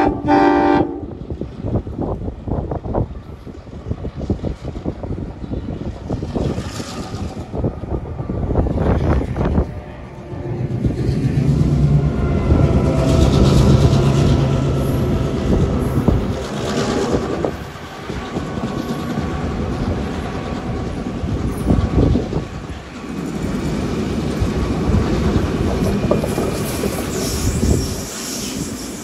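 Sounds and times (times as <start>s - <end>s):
diesel locomotive engine humming: 0.0s - 28.7s.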